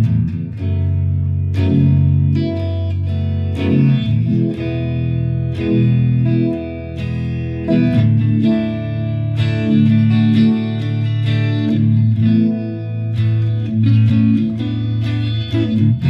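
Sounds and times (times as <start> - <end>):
electric guitar ringing chords: 0.0 - 16.0.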